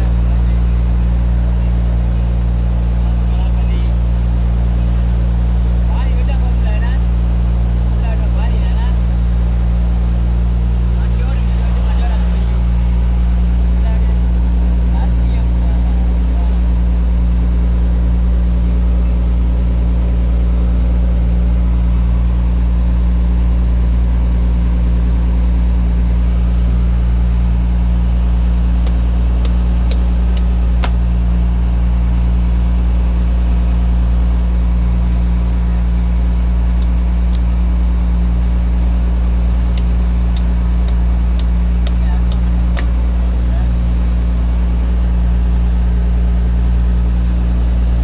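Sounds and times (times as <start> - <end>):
boat engine drone: 0.0 - 48.0
thin high whine: 0.0 - 48.0.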